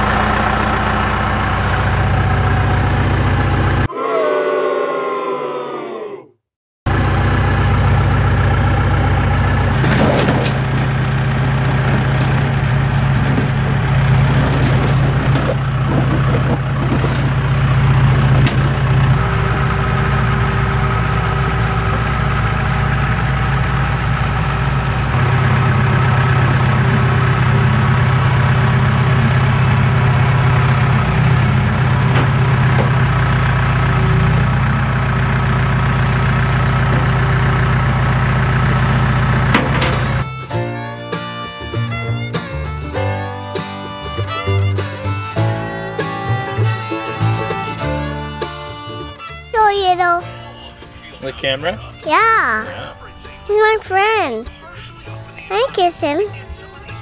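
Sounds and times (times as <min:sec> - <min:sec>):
diesel engine running: 0:00.0 - 0:03.9, 0:06.9 - 0:57.0.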